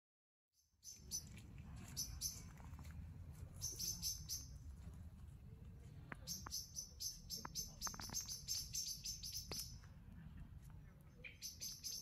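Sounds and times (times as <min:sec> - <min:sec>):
small birds chirping: 0:00.6 - 0:04.8, 0:06.0 - 0:12.0.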